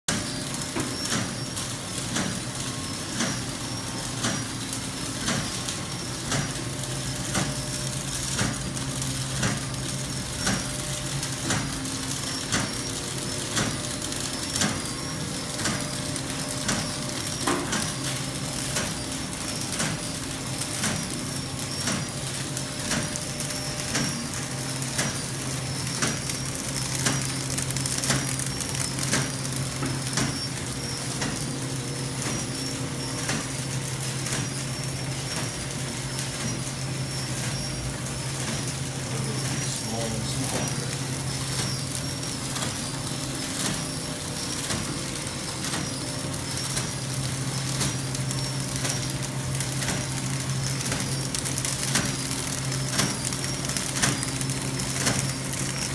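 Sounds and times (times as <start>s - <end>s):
packaging machine humming: 0.1s - 55.9s.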